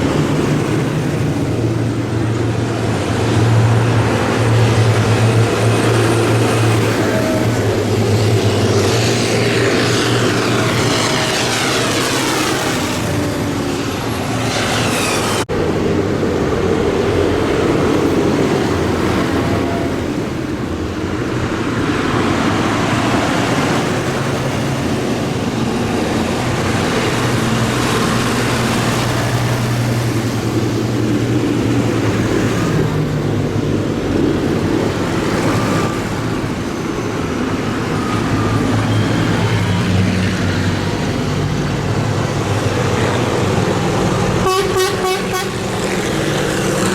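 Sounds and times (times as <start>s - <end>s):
tractors driving past: 0.0s - 46.9s.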